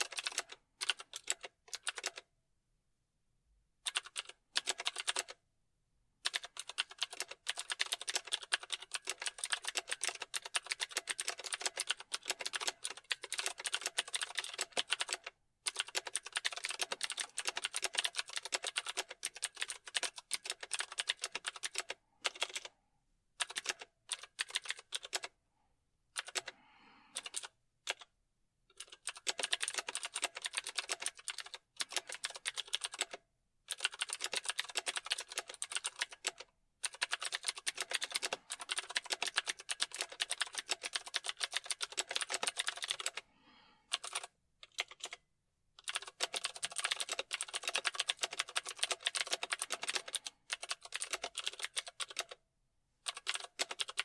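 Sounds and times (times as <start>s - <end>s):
typing on computer keyboard: 0.0s - 2.3s, 3.8s - 5.4s, 6.2s - 22.7s, 23.4s - 25.3s, 26.2s - 26.5s, 27.1s - 28.1s, 28.7s - 43.2s, 43.9s - 45.2s, 45.8s - 52.4s, 53.0s - 54.0s.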